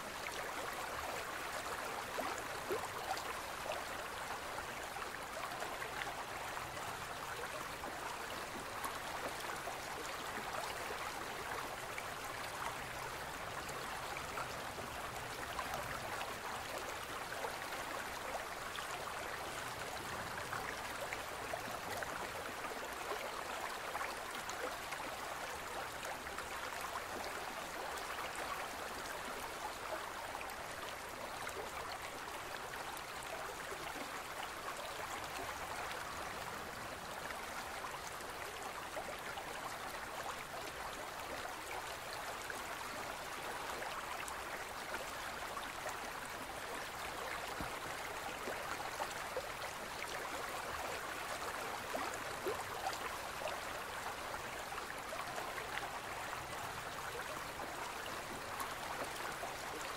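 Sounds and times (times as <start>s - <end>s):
stream babbling: 0.0s - 59.9s
water splashes and trickles: 0.0s - 59.9s.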